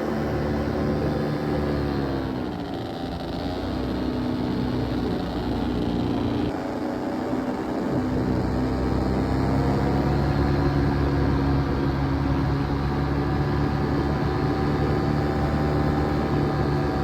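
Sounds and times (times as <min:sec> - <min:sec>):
paramotor engine and propeller: 0:00.0 - 0:17.0.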